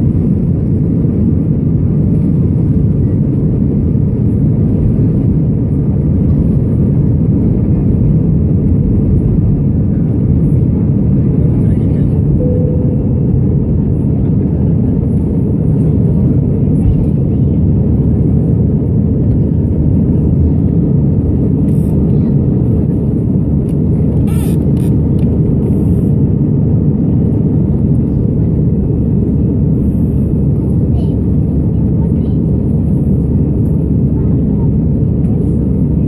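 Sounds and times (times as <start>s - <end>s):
jet engine rumble in cabin: 0.0s - 36.0s.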